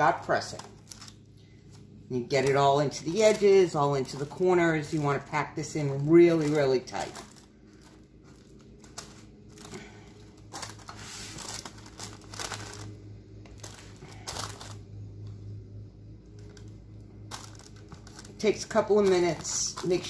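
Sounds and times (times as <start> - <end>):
parchment paper crinkling: 0.2 - 14.9, 16.3 - 20.0.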